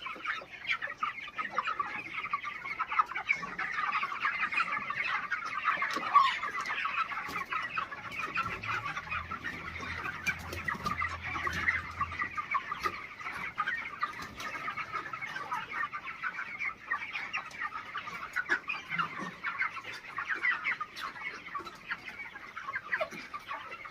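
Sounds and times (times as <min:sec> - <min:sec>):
chickens chirping and clucking: 0:00.0 - 0:23.9.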